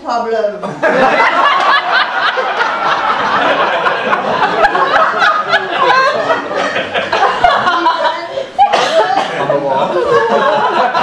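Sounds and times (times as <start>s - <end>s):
audience laughing: 0.7s - 11.0s.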